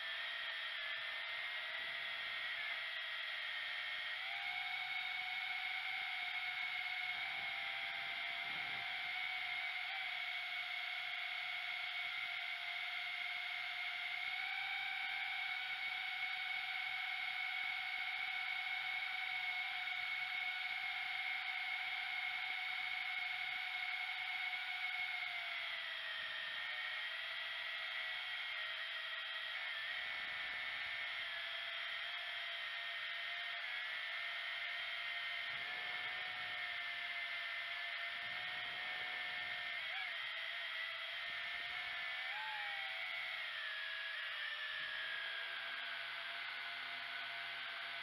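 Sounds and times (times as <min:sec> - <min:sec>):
quadcopter motors whining: 0:00.0 - 0:48.0.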